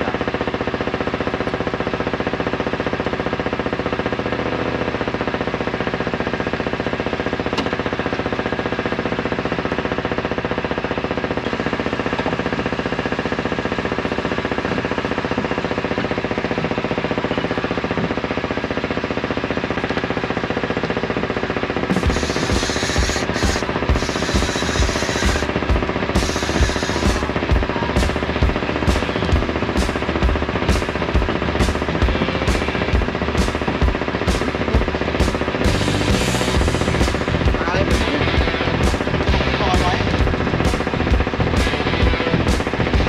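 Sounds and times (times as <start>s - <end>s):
boat engine running: 0.0s - 43.0s.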